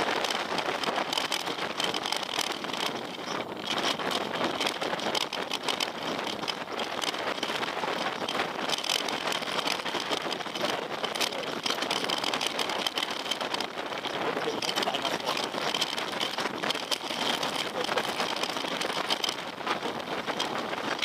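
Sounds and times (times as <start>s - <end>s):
bike rattling and knocking: 0.0s - 21.0s
bike tyres rolling over gravel: 0.0s - 21.0s.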